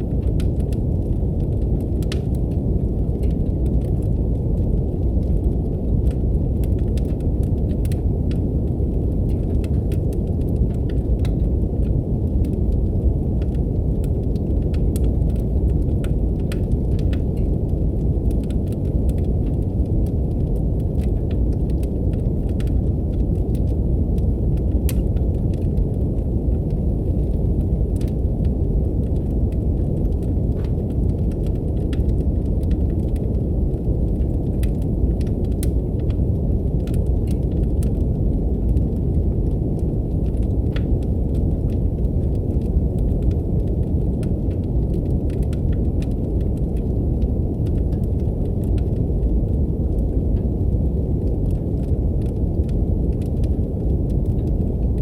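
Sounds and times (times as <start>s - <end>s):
brown noise hiss: 0.0s - 55.0s
fireplace crackle: 0.0s - 55.0s.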